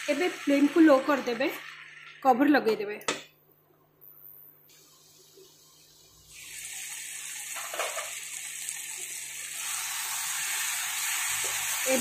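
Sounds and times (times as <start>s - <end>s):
food sizzling in a frying pan: 0.0s - 2.4s, 4.7s - 12.0s.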